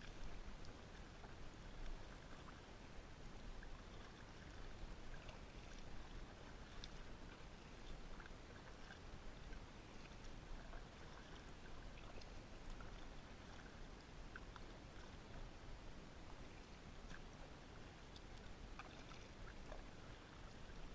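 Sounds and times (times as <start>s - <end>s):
low steady hiss: 0.0s - 20.9s
paddle splashing and dripping: 0.0s - 20.9s.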